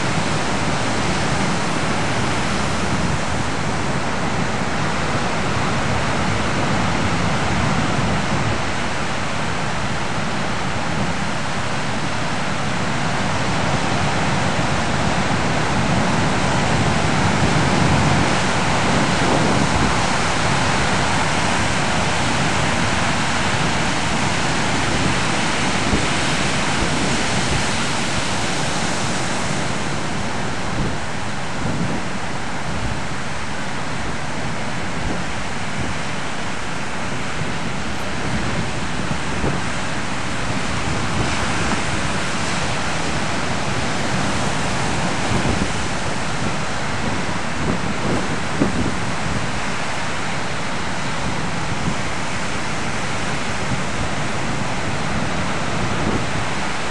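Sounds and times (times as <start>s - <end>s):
surf breaking on beach: 0.0s - 56.9s.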